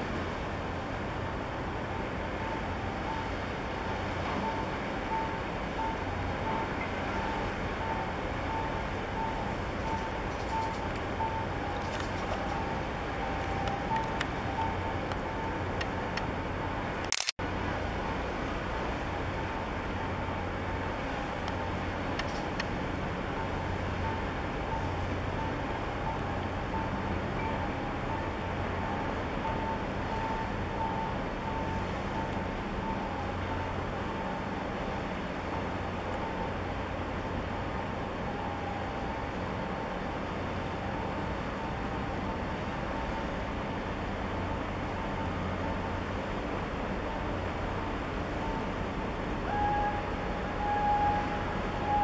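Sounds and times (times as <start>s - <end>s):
traffic noise: 0.0s - 52.0s.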